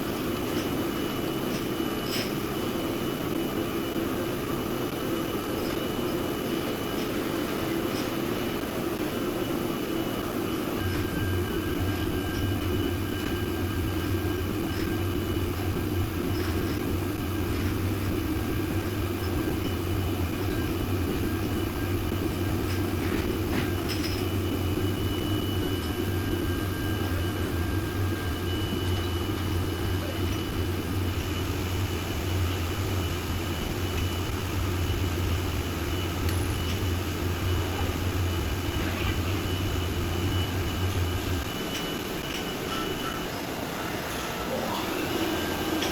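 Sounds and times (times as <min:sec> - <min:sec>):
faint high whines: 0:00.0 - 0:45.9
low machine hum: 0:00.0 - 0:45.9.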